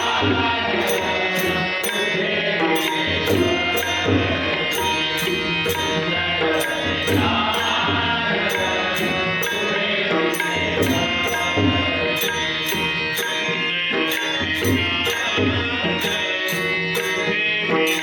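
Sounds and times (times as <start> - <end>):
tabla and pakhawaj drumming: 0.0 - 18.0.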